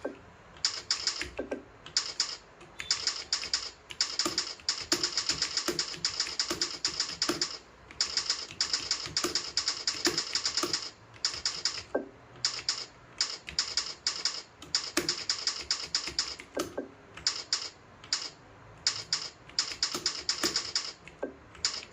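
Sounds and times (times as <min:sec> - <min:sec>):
computer keyboard typing: 0:00.0 - 0:21.9.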